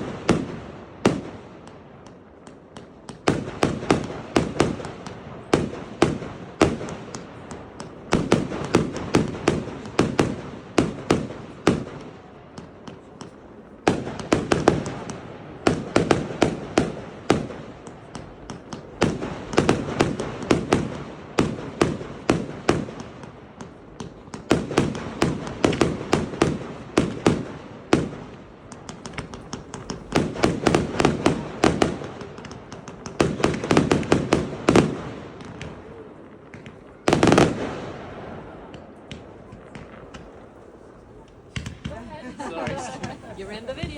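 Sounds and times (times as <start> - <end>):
fireworks crackling bangs: 0.0 - 43.9.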